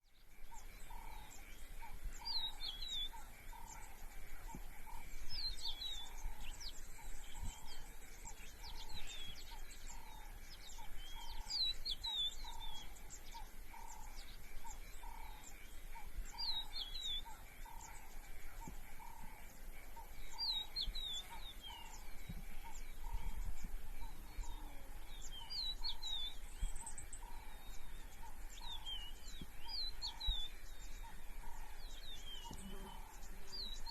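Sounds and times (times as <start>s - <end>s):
bird song phrase: 0.0s - 33.9s.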